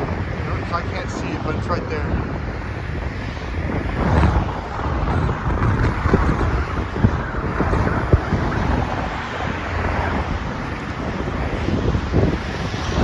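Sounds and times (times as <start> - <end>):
passing highway traffic: 0.0 - 13.0
wind buffeting microphone: 0.0 - 13.0.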